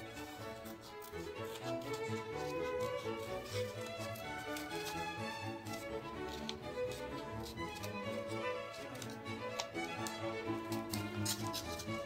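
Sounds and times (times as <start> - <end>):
instrumental music: 0.0 - 12.0
scissors cutting paper: 0.0 - 12.0.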